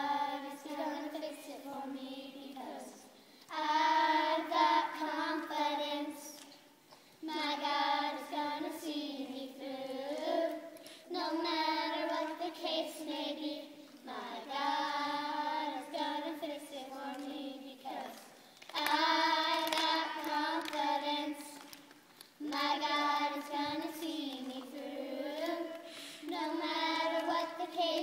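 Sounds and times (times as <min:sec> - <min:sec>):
children singing in unison: 0:00.0 - 0:06.5, 0:07.2 - 0:21.8, 0:22.4 - 0:28.0.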